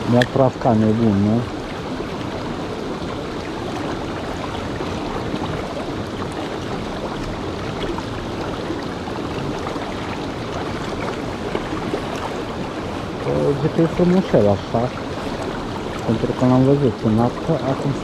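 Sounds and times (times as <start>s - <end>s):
river water rushing over rocks: 0.0s - 18.0s.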